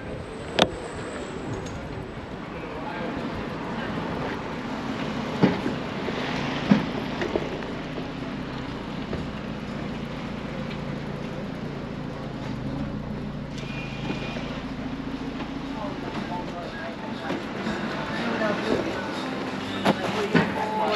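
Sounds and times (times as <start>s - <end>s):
traffic engine hum: 0.0s - 20.9s.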